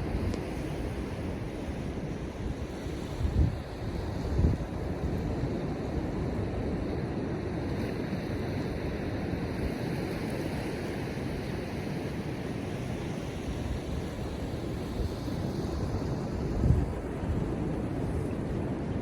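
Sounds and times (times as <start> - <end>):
wind on microphone: 0.0 - 7.1, 10.8 - 19.0
ocean surf washing: 0.0 - 19.0.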